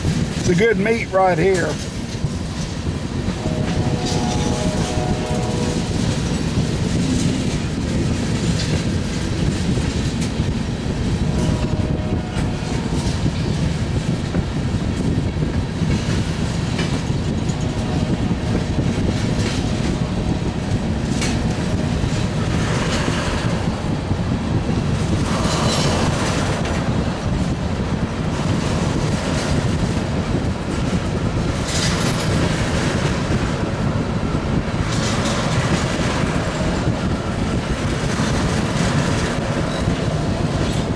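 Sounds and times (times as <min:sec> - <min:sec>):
freight train rumbling past: 0:00.0 - 0:40.9
wheels clacking over rail joints: 0:00.0 - 0:40.9.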